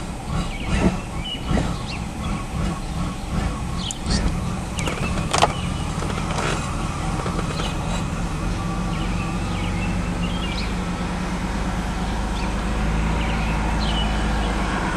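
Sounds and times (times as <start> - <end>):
car engine idling roughly: 0.0 - 14.0.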